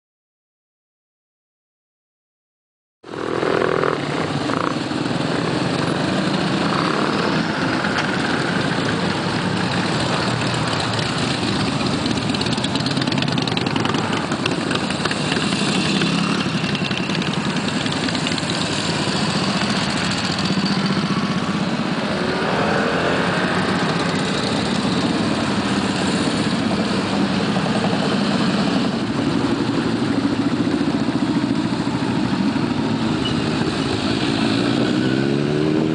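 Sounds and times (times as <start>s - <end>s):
motorcycles riding past: 3.1s - 35.9s.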